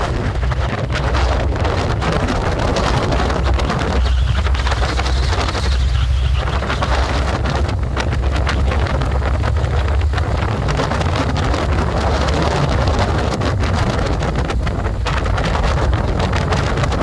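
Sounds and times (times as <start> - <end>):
motorcycle running: 0.0 - 17.0
wind buffeting microphone: 0.0 - 17.0.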